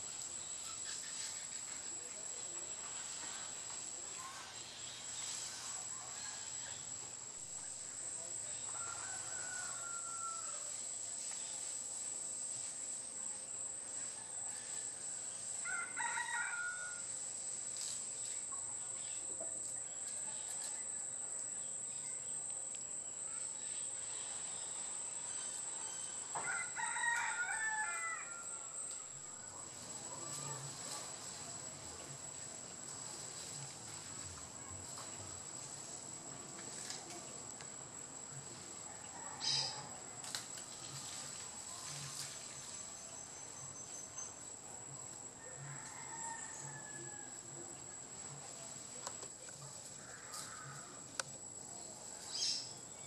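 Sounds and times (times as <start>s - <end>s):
high-pitched insect whine: 0.0s - 53.0s.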